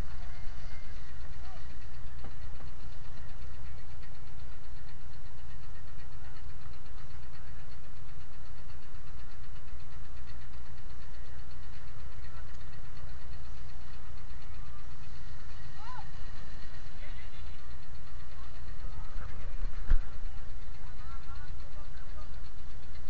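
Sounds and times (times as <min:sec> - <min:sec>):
boat engine throbbing: 0:00.0 - 0:23.0.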